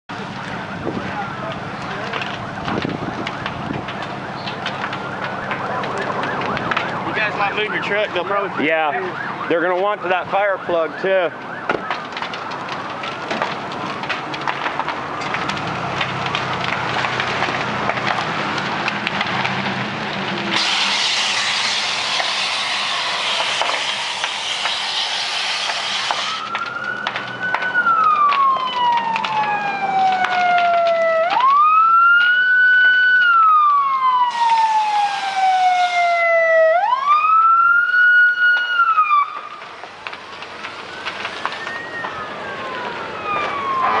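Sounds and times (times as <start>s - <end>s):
building fire crackling: 0.1s - 44.0s
emergency vehicle siren wailing: 0.1s - 44.0s.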